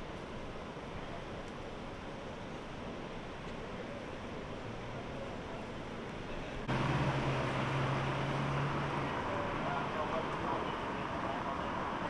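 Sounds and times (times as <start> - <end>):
distant traffic hiss: 0.0 - 12.0.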